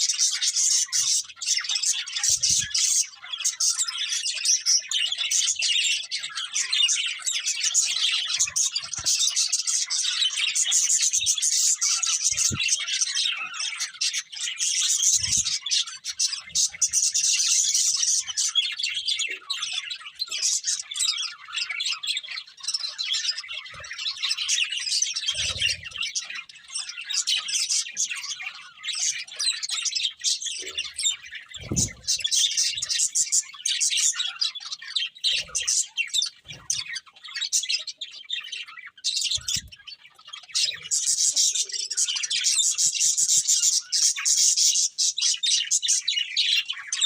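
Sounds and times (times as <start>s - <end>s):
budgerigars chattering: 0.0s - 47.0s.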